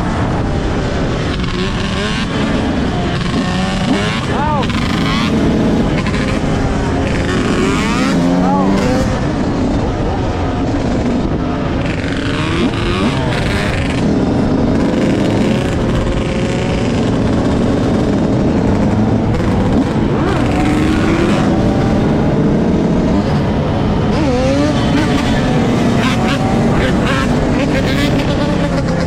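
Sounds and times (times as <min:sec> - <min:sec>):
motor vehicle engines running: 0:00.0 - 0:29.0.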